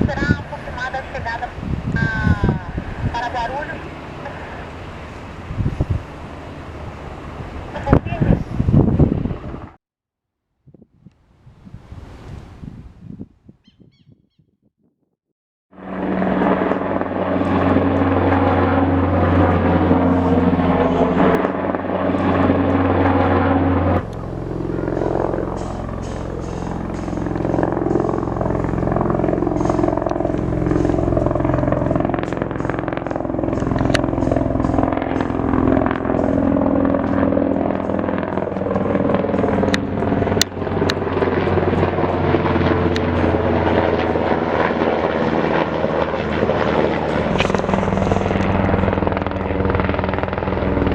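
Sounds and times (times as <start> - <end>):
helicopter turbine and rotor: 0.0 - 9.8, 15.8 - 50.9.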